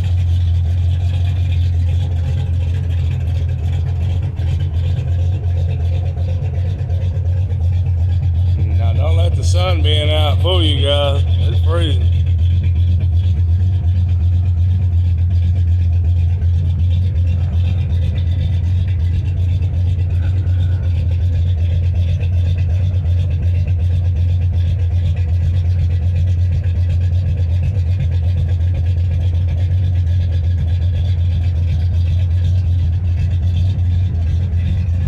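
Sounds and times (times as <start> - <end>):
truck engine idling: 0.0 - 35.0.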